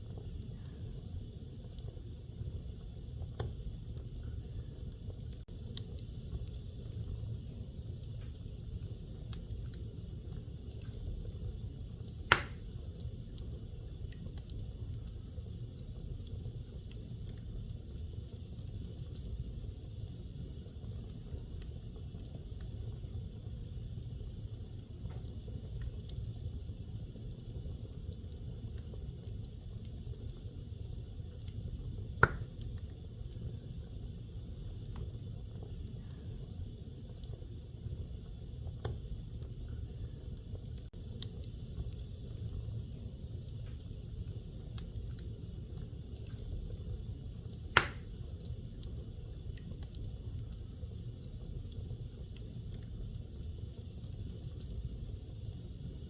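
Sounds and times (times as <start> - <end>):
fire burning in fireplace: 0.0 - 56.0.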